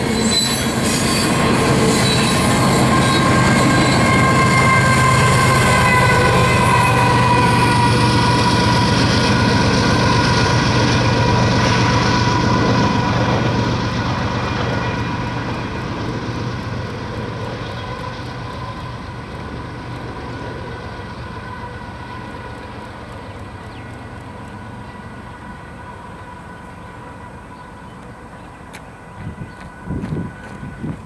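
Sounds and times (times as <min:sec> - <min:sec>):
diesel locomotive whine: 0:00.0 - 0:31.0.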